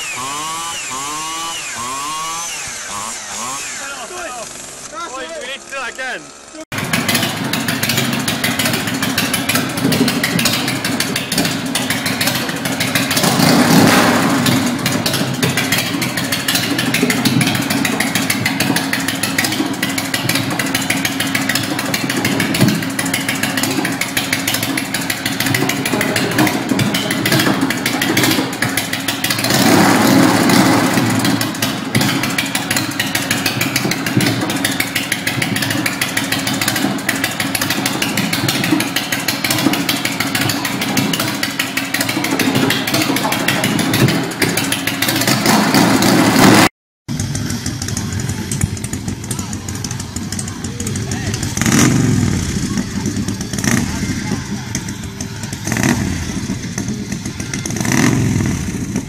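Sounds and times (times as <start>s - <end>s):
motorcycle engine idling and revving: 0.0s - 59.0s
exhaust pop: 6.7s - 59.0s.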